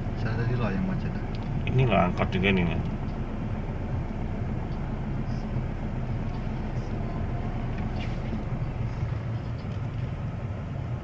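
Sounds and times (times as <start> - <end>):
car engine low rumble: 0.0 - 11.0
faint street noise: 0.0 - 11.0.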